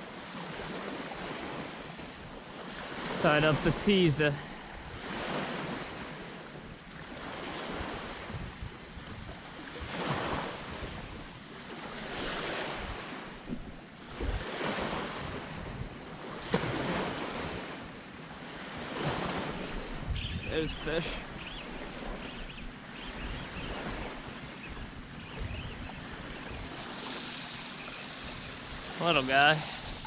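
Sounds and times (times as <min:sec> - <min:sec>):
small waves washing in: 0:00.0 - 0:30.0
wind rumbling on microphone: 0:04.5 - 0:17.9, 0:18.7 - 0:30.0.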